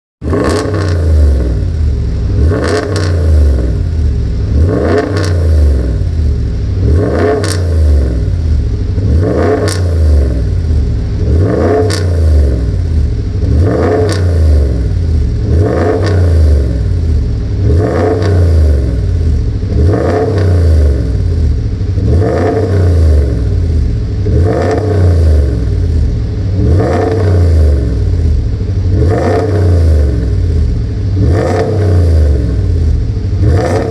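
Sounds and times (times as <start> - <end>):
exhaust rumble: 0.2 - 33.9
truck engine revving: 0.2 - 33.9.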